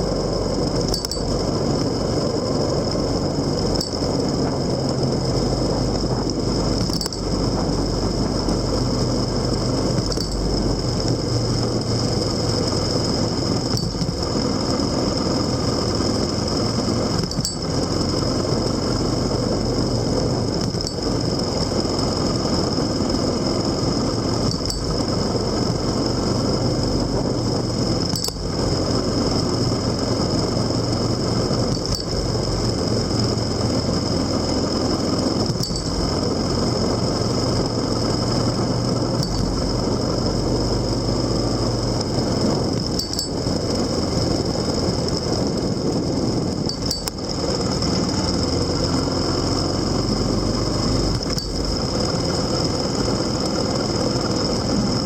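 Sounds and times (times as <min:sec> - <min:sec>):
road noise: 0:00.0 - 0:55.0
steady high whine: 0:00.0 - 0:55.0
vehicle engine running: 0:00.0 - 0:55.0.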